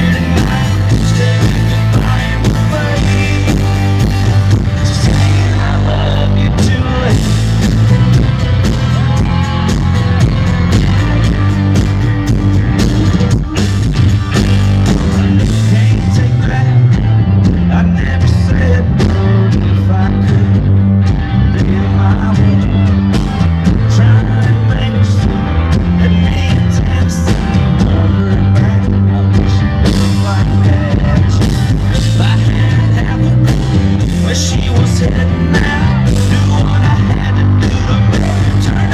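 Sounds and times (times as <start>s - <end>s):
live country band playing: 0.0s - 38.9s
steady drum beat: 0.0s - 38.9s.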